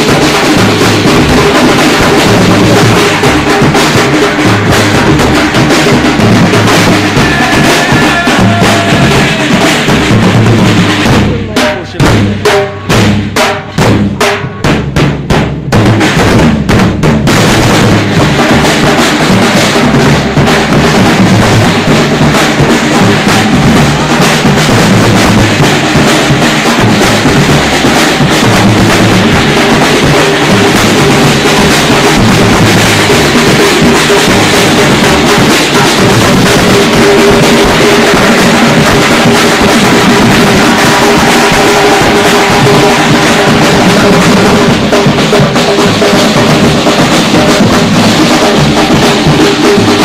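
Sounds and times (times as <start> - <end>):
bass drums: 0.0 - 50.0
snare drum: 0.0 - 50.0.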